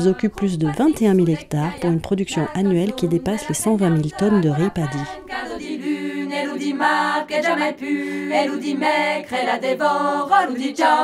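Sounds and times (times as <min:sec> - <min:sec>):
a cappella choir singing: 0:00.0 - 0:11.0.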